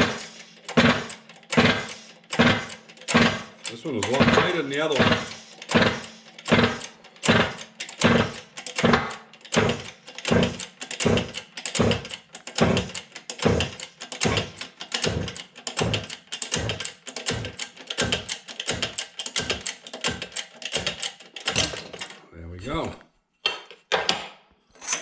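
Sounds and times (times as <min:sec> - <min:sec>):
shop press strokes: 0:00.0 - 0:22.1.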